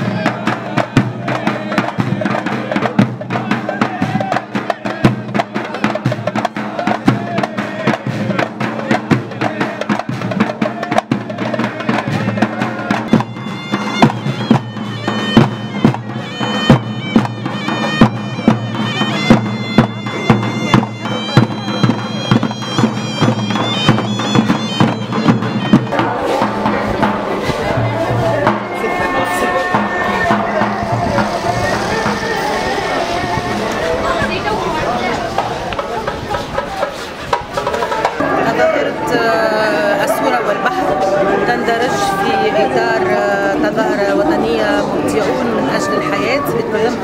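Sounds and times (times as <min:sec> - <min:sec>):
frame drums beating: 0:00.0 - 0:47.0
reedy wind instrument melody: 0:00.0 - 0:47.0.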